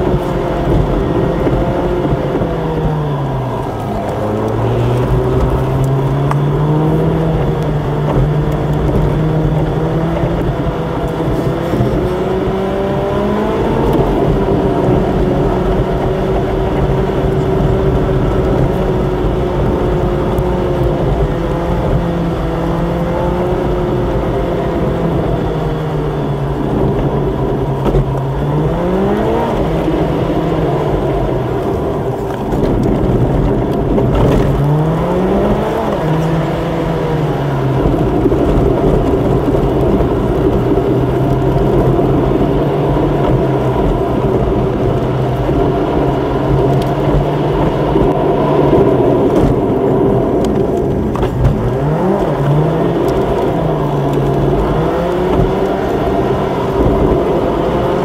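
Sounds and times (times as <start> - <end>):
car engine revving: 0.0 - 58.0
tyre noise inside car: 0.0 - 58.0.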